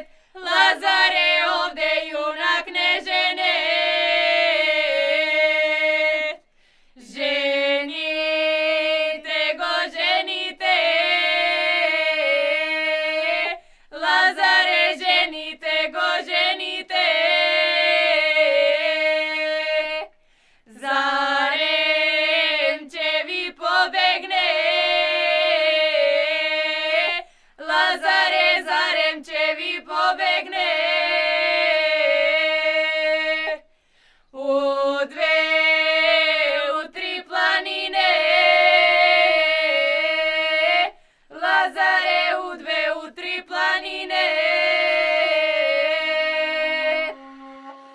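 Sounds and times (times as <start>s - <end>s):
women singing unaccompanied: 0.0s - 33.7s, 34.3s - 47.9s.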